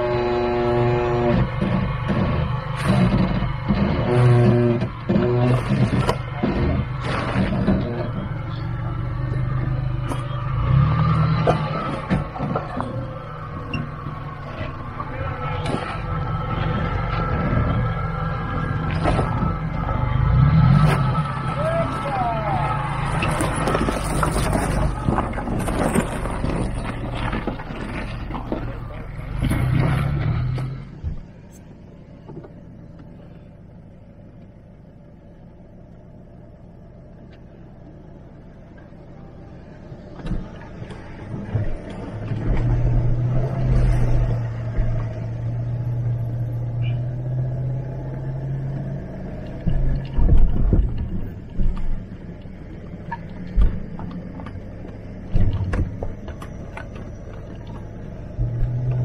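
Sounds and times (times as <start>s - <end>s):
car engine hum: 0.0s - 59.0s
car knocks and thumps over bumps: 1.0s - 10.4s, 11.0s - 31.5s, 40.0s - 59.0s.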